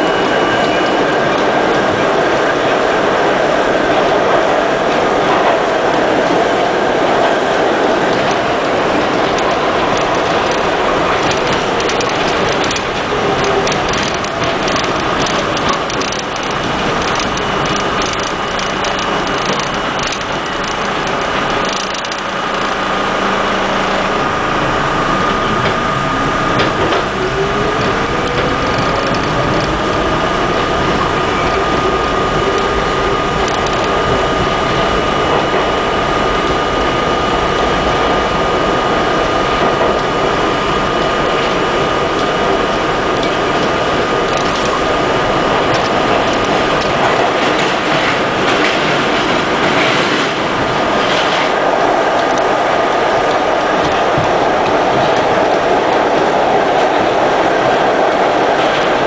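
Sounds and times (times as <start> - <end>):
lower whine rising in pitch: 0.0 - 47.4
steady high whine: 0.0 - 59.0
subway car clattering on track: 0.0 - 59.0.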